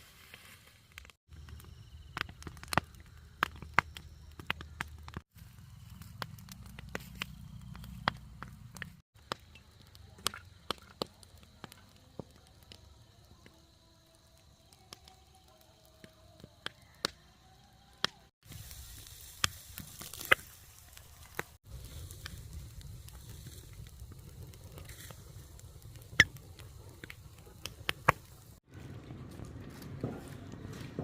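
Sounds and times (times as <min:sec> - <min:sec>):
dry plants burning and crackling: 0:00.0 - 0:31.0.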